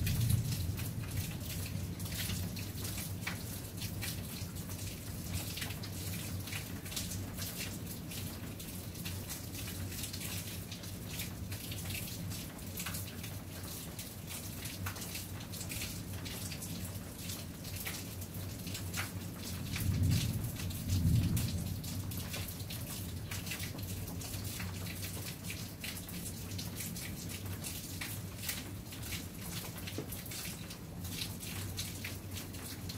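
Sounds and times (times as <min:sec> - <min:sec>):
rain pattering on hard surfaces: 0:00.0 - 0:32.9.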